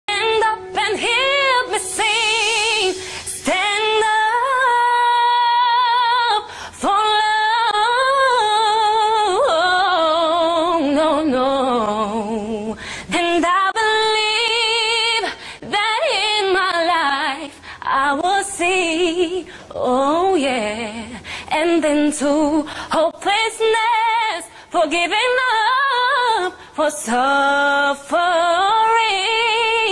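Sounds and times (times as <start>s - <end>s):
woman singing unaccompanied: 0.1s - 29.9s.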